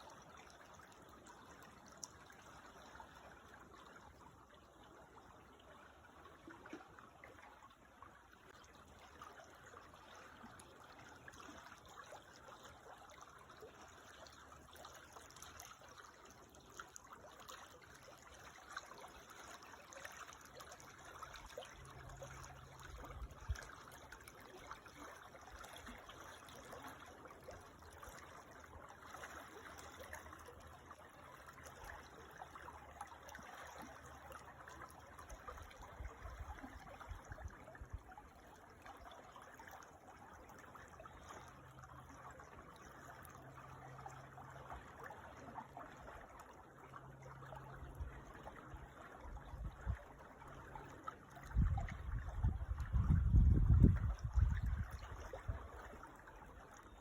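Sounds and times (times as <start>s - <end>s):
creek water trickling: 0.0s - 57.0s.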